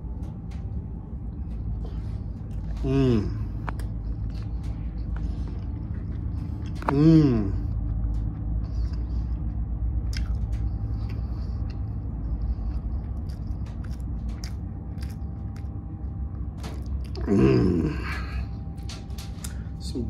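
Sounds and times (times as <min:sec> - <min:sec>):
steady low rumble: 0:00.0 - 0:20.0
person chewing: 0:01.8 - 0:18.5.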